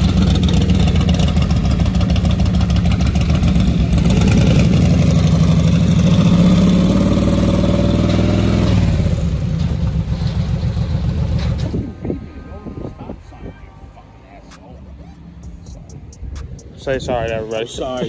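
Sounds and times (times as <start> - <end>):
car engine through open headers: 0.0 - 14.6.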